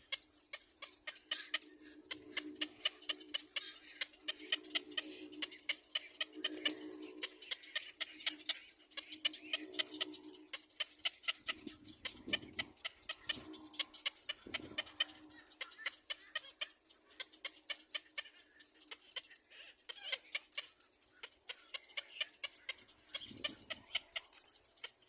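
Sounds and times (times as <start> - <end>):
baby birds chirping: 0.0 - 25.0.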